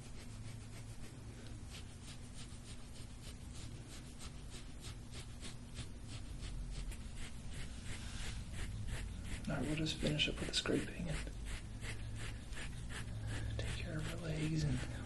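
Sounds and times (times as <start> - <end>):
steady low hum: 0.0 - 15.0
tool scraping over skin: 0.0 - 15.0.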